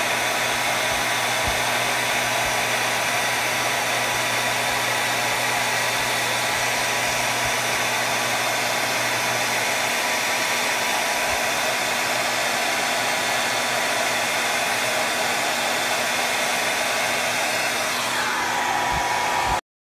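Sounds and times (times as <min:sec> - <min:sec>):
hair dryer blowing: 0:00.0 - 0:19.6.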